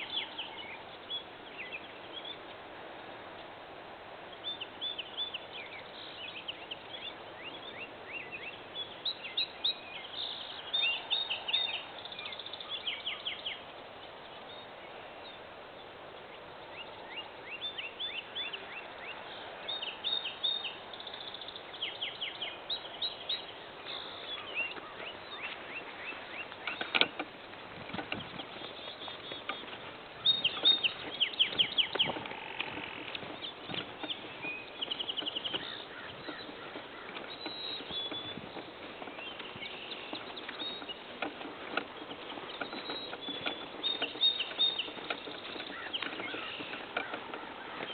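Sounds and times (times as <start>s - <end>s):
faint background hiss: 0.0s - 47.9s
wild birds chirping and singing: 0.0s - 47.9s.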